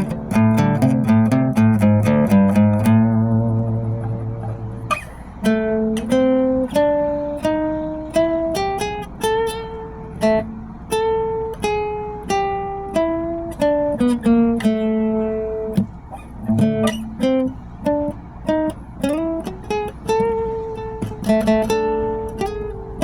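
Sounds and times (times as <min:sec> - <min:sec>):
plucked guitar melody: 0:00.0 - 0:23.0.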